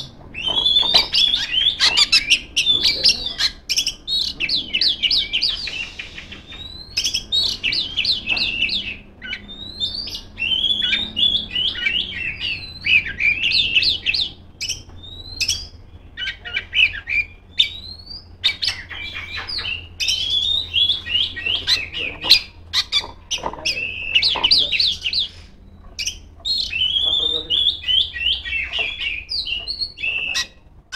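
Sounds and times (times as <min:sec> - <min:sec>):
bird singing whistles and trills: 0:00.0 - 0:30.7.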